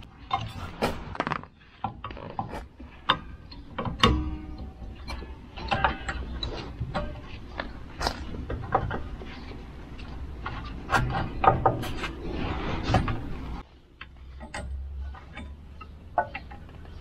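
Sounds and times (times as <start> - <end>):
metal clicks and clanks: 0.0 - 12.2, 12.8 - 17.0.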